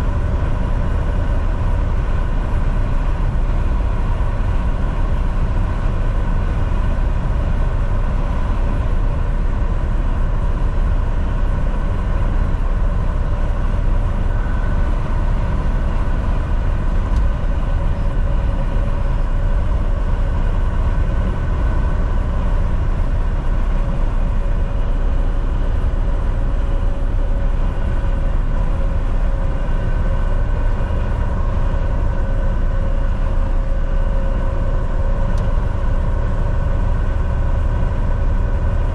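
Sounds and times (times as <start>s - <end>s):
faint whine: 0.0s - 38.9s
truck engine and road noise: 0.0s - 38.9s.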